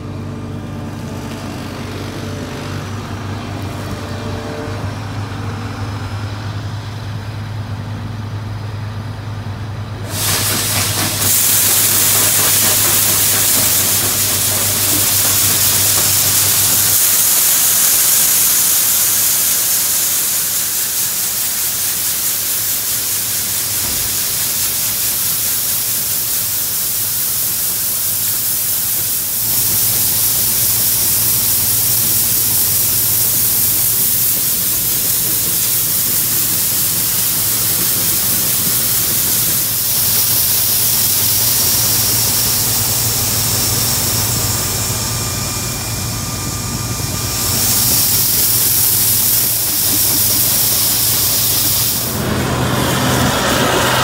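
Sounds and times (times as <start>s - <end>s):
combine harvester engine hum: 0.0s - 54.0s
loud hiss: 10.0s - 54.0s.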